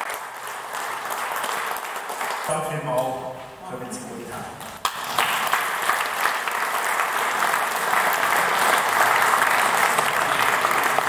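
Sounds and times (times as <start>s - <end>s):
audience applauding: 0.0s - 3.2s, 4.6s - 11.0s.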